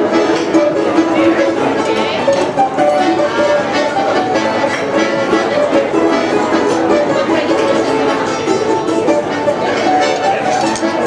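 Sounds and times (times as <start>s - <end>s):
balalaika plucking: 0.0s - 11.0s
button accordion notes: 0.0s - 11.0s.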